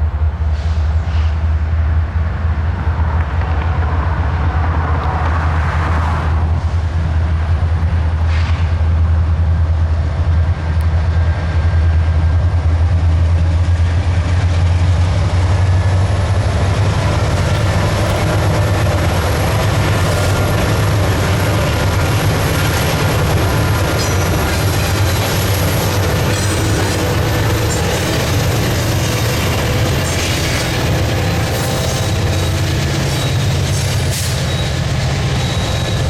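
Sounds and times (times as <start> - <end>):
freight train rumbling on rails: 0.0 - 36.0.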